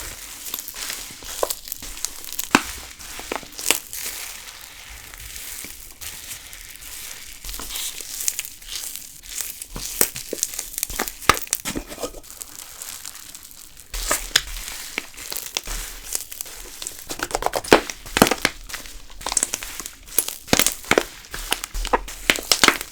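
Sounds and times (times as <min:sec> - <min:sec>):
slime squeezed crackling: 0:00.0 - 0:22.9.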